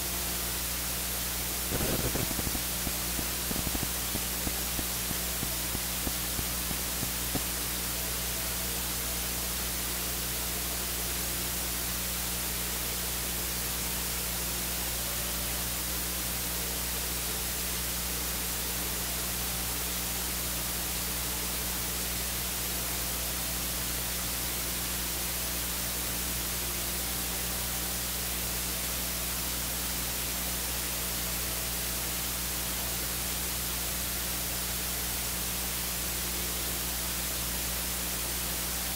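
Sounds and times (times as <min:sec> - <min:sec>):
low electrical hum: 0:00.0 - 0:38.9
recording hiss: 0:00.0 - 0:38.9.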